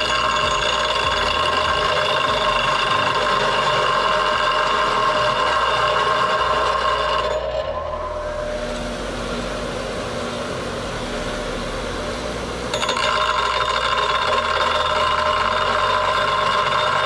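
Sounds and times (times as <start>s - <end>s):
grinder grinding metal: 0.0s - 10.3s, 12.7s - 17.0s
grinder motor spinning freely: 0.0s - 17.0s.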